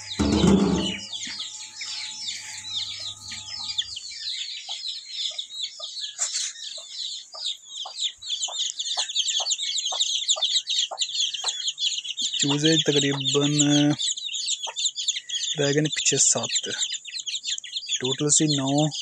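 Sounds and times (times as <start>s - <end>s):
hen clucking: 0.0s - 4.0s, 4.7s - 18.8s
chicks chirping and peeping: 0.0s - 19.0s.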